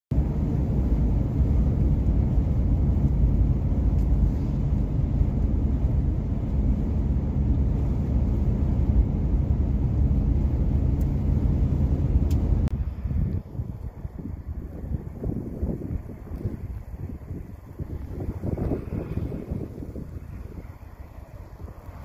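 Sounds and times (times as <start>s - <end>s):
car engine running: 0.1s - 22.0s
tyre and road noise: 0.1s - 22.0s.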